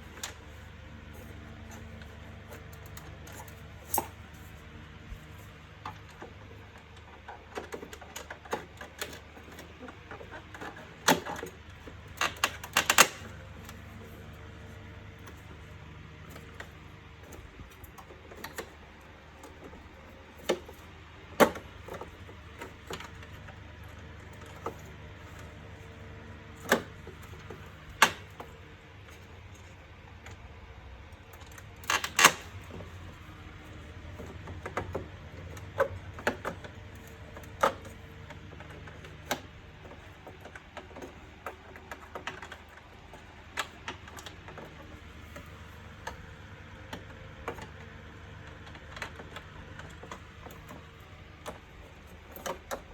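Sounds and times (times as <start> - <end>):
plastic parts clicking and knocking: 5.1 - 30.4, 31.1 - 52.9.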